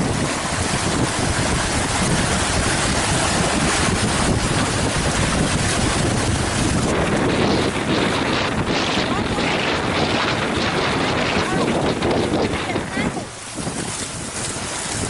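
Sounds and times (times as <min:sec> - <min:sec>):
gusty wind on microphone: 0:00.0 - 0:15.0
water rushing past boat: 0:00.0 - 0:15.0.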